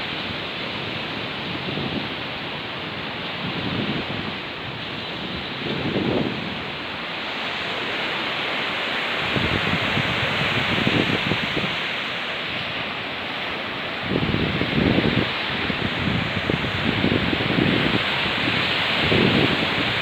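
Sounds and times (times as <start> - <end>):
wind buffeting microphone: 0.0 - 7.0, 9.2 - 20.0.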